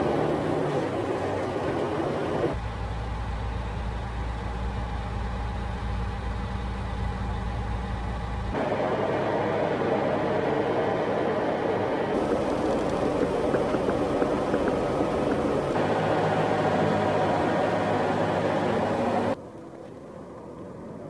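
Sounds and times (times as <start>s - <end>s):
engine and road rumble: 0.0s - 21.0s
truck engine hum: 0.0s - 21.0s.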